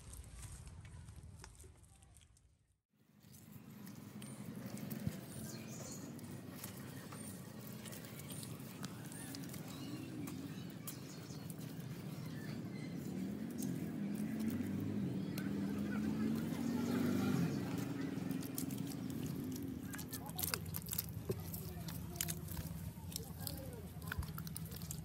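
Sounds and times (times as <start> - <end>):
wet mud squelching: 3.2 - 25.0.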